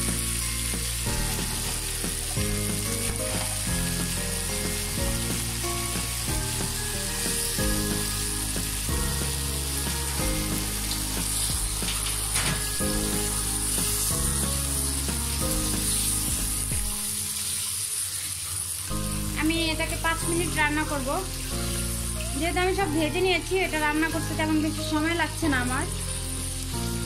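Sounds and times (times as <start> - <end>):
background music with held notes: 0.0 - 17.6, 18.9 - 27.0
fish sizzling in oil: 0.0 - 27.0.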